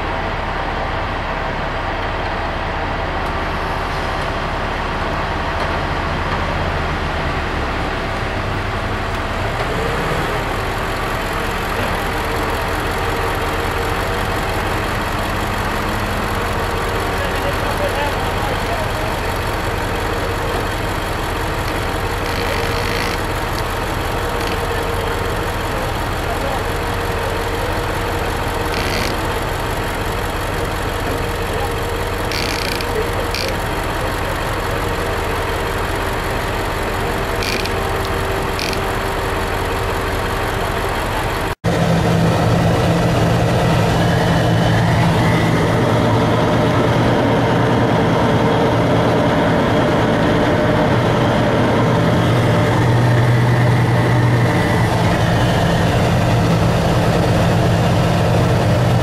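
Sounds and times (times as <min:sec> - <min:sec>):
engine idling: 0:00.0 - 0:59.0
vehicle engine drone inside cab: 0:00.0 - 0:59.0.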